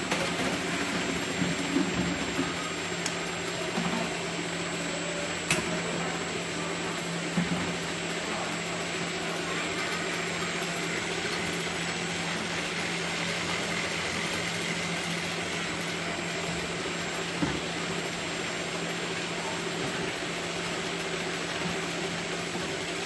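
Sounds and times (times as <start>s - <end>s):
machine motor and conveyor hum: 0.0s - 23.0s.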